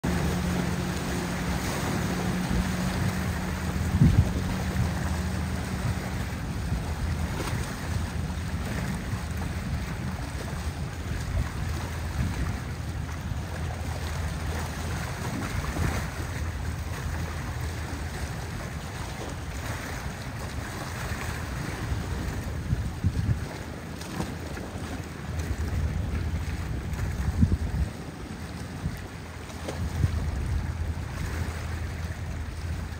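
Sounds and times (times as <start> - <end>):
motorboat engines droning: 0.0 - 32.9
waves washing: 0.0 - 32.9
wind buffeting microphone: 0.0 - 32.9.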